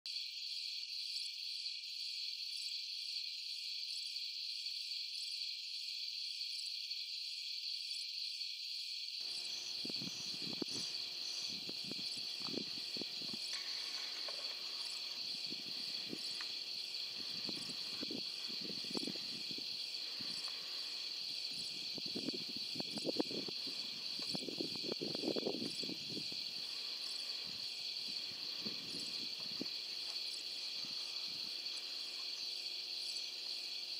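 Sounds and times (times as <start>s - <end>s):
insects chirring: 0.1s - 33.9s.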